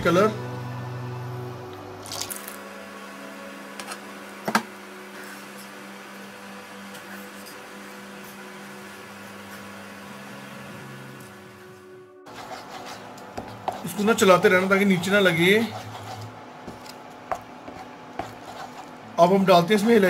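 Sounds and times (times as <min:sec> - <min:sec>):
cooktop fan humming: 0:00.0 - 0:20.0.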